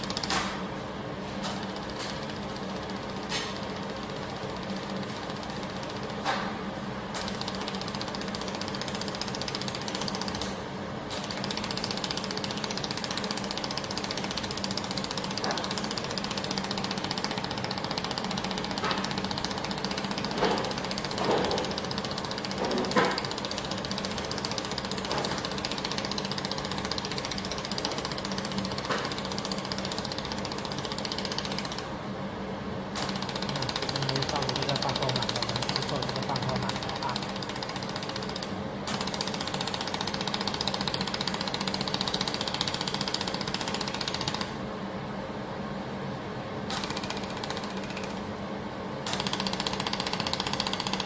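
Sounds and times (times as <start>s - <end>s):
welding machine humming: 1.4s - 44.6s, 46.7s - 48.3s, 49.1s - 51.0s.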